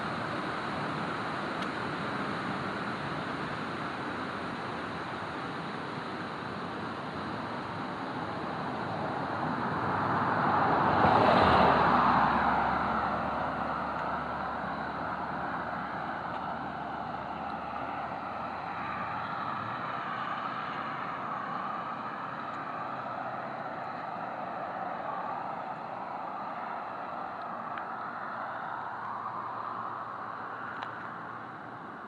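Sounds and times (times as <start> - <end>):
vehicle passing on road: 0.0 - 32.0.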